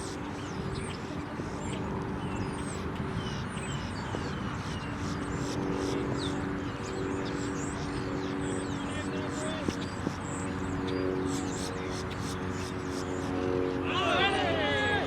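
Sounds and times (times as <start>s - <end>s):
droning hum: 0.0s - 15.0s.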